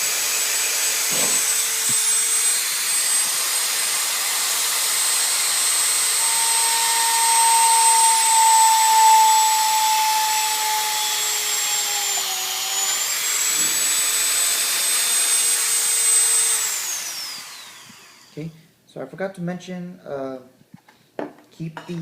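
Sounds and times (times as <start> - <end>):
electric drill whining: 0.0 - 18.4.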